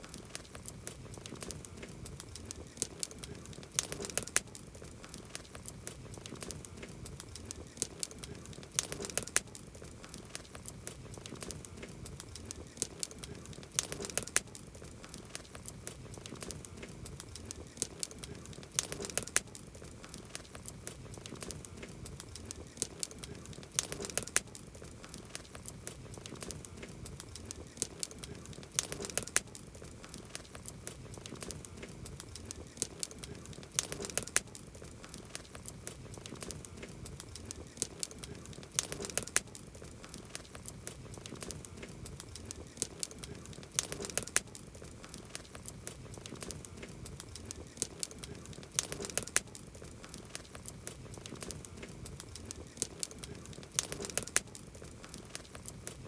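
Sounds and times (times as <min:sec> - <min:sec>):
campfire crackling: 0:00.0 - 0:56.0
soft hiss of burning wood: 0:00.0 - 0:56.0.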